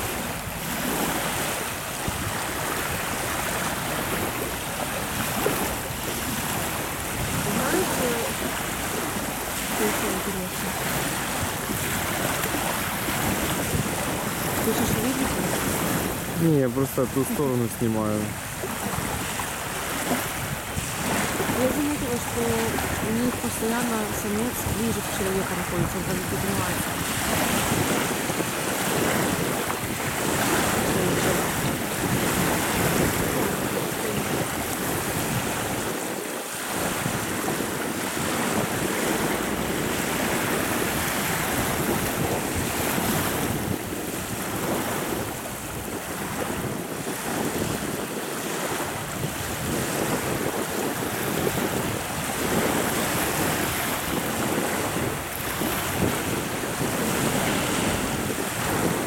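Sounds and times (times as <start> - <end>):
river waves washing: 0.0 - 59.0
wind on microphone: 0.0 - 59.0.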